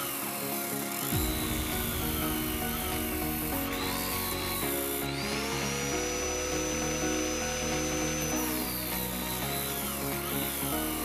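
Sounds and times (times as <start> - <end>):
background music: 0.0 - 11.0
motor whine sanding wood: 0.0 - 11.0.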